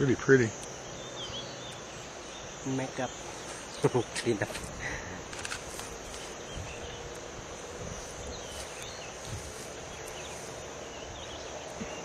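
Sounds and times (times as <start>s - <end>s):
bird chirps: 0.0s - 4.5s, 5.7s - 12.0s
high-pitched insect drone: 0.0s - 12.0s.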